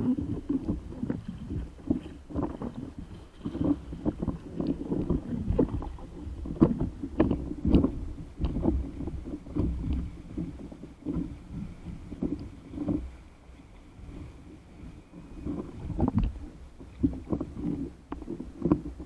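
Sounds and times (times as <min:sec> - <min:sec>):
water splashing against a paddle board: 0:00.0 - 0:19.0
wind buffeting microphone: 0:00.0 - 0:19.0.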